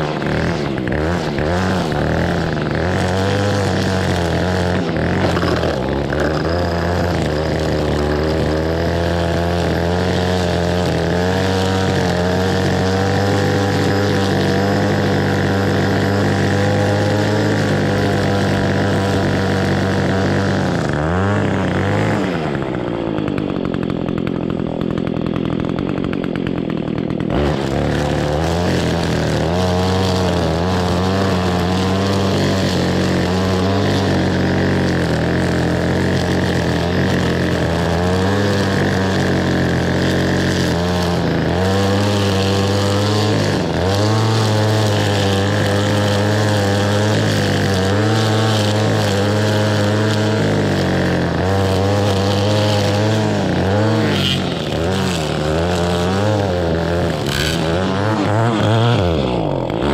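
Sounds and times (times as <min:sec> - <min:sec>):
string trimmer engine: 0:00.0 - 0:59.9.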